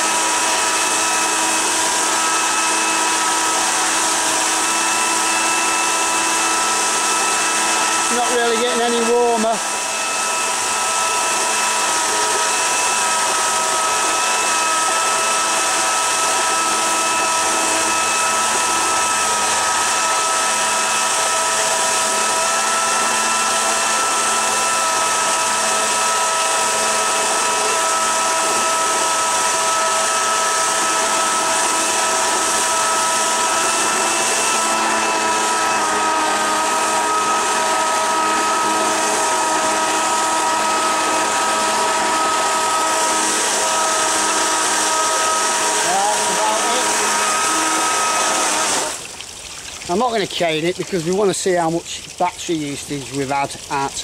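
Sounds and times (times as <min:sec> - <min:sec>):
electric motor whine: 0:00.0 - 0:49.3
water jet churning rush: 0:00.0 - 0:54.0.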